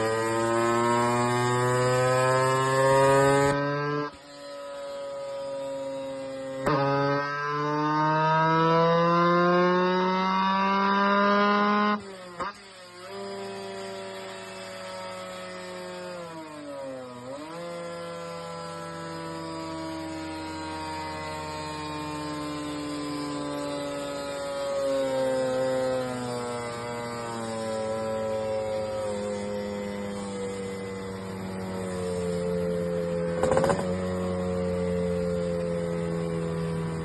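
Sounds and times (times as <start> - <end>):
two-stroke motorcycle engine revving: 0.0 - 37.0.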